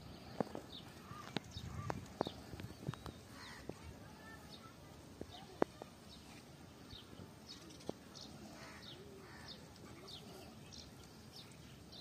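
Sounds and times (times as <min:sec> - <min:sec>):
bird chirping: 0:00.0 - 0:04.8, 0:05.4 - 0:12.0.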